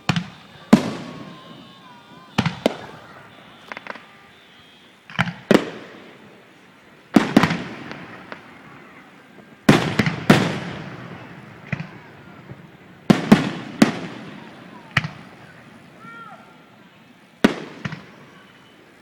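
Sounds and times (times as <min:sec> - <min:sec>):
fireworks booming with echo: 0:00.0 - 0:19.0.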